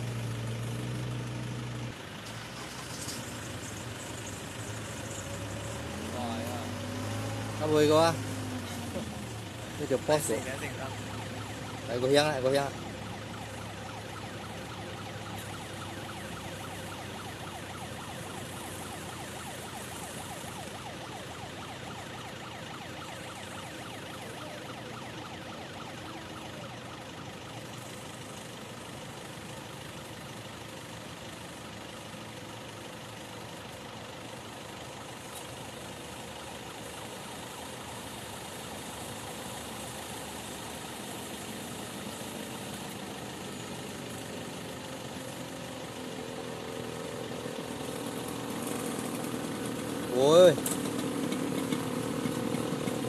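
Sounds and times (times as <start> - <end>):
diesel engines idling: 0.0 - 53.0.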